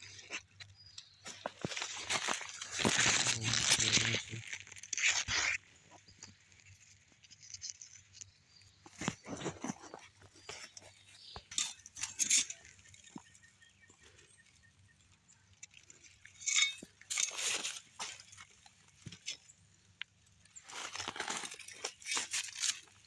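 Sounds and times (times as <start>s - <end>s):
straw and leaves rustling: 0.0s - 23.0s.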